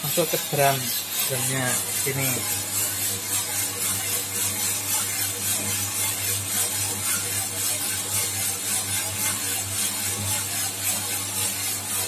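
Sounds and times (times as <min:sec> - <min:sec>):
coffee roaster humming: 0:00.0 - 0:12.0.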